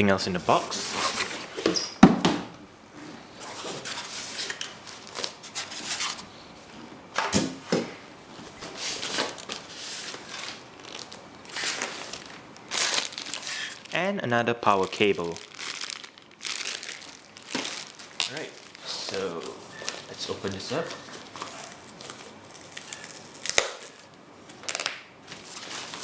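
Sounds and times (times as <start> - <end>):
cardboard and plastic packaging rustling: 0.3 - 2.4, 3.0 - 14.0, 14.7 - 26.0.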